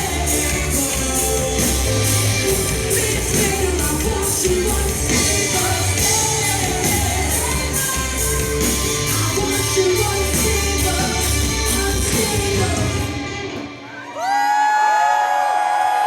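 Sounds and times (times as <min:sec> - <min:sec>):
live rock band playing: 0:00.0 - 0:14.1.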